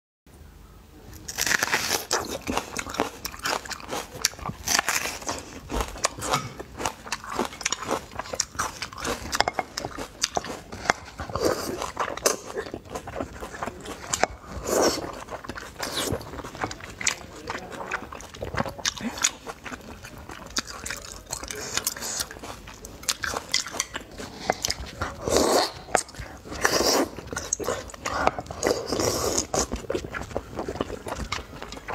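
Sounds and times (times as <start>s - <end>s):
crunchy onion bites and chewing: 1.1s - 31.9s.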